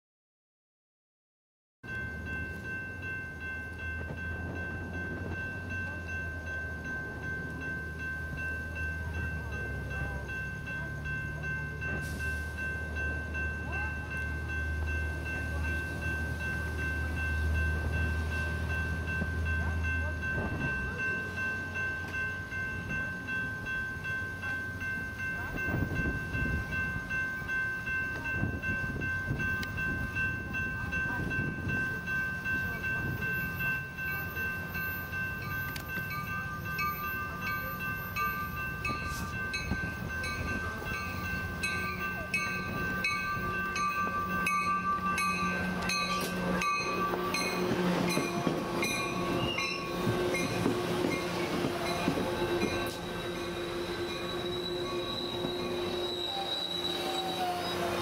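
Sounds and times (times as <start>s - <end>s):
crossing warning bells ringing: 1.8s - 58.0s.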